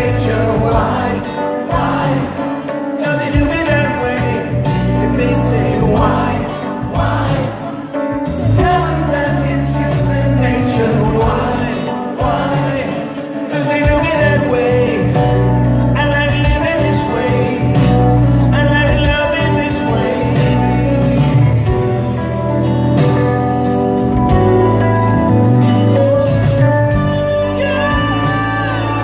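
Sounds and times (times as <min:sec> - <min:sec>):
man singing: 0:00.0 - 0:22.2, 0:26.8 - 0:29.0
live rock band playing: 0:00.0 - 0:29.0.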